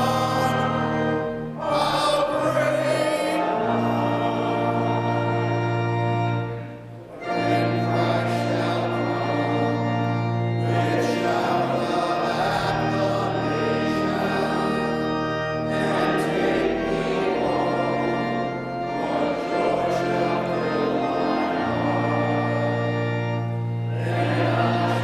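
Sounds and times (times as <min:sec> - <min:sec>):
choir singing a hymn: 0:00.0 - 0:25.0
pipe organ chords: 0:00.0 - 0:25.0.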